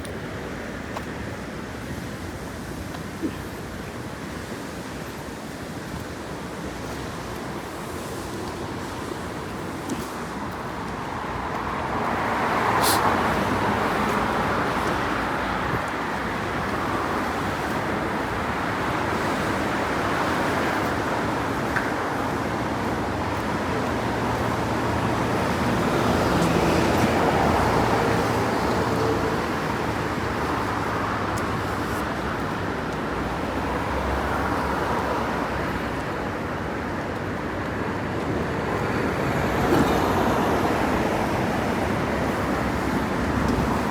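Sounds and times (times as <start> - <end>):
vehicles passing on wet road: 0.0 - 43.9.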